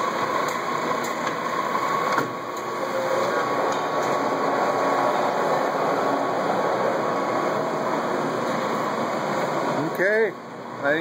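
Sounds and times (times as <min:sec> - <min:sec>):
lathe running: 0:00.0 - 0:10.9.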